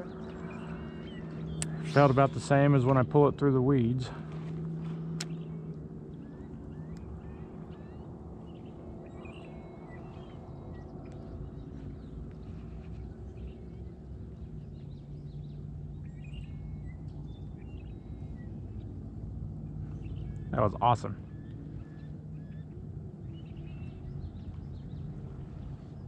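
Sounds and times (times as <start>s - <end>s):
low outdoor hum: 0.0s - 26.0s
small birds chirping: 0.0s - 26.0s.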